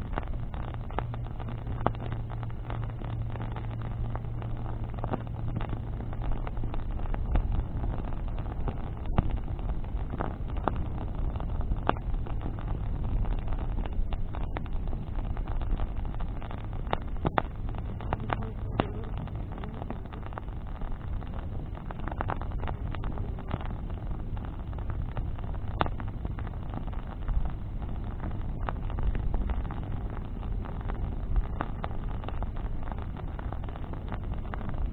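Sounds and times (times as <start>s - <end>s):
bonfire crackling and popping: 0.0s - 34.9s
fire low rumble: 0.0s - 34.9s.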